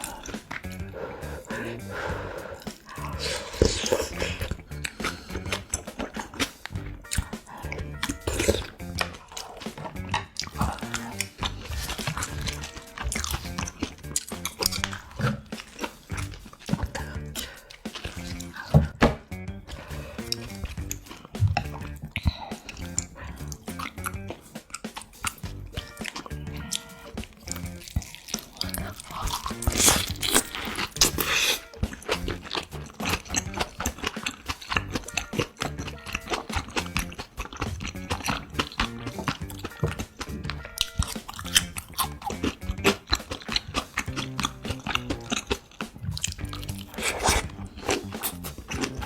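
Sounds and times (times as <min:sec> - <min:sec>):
background music with low notes: 0:00.0 - 0:49.0
person chewing food: 0:00.0 - 0:49.0.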